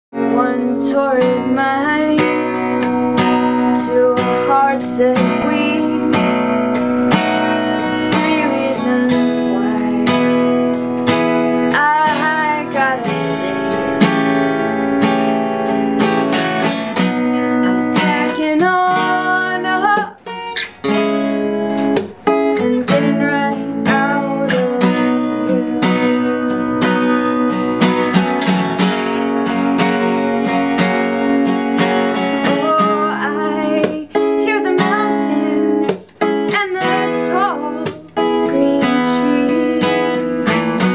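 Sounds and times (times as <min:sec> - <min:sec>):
acoustic guitar strumming: 0:00.1 - 0:40.9
woman singing: 0:00.2 - 0:15.4, 0:16.0 - 0:20.4, 0:22.2 - 0:27.5, 0:32.2 - 0:40.9.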